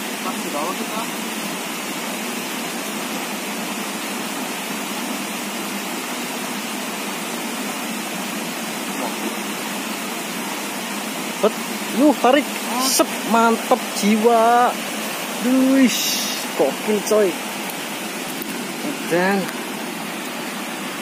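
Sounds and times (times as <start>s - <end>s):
stream rushing over stones: 0.0s - 21.0s.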